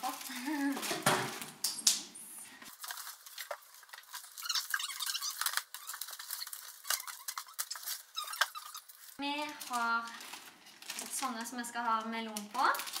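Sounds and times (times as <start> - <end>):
plastic packaging and cardboard rustling: 0.0 - 1.8, 2.6 - 13.0.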